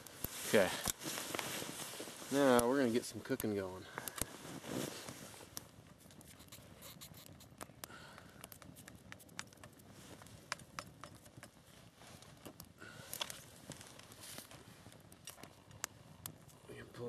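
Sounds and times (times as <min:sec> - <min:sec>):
twigs crackling in a stove: 0:00.0 - 0:17.0.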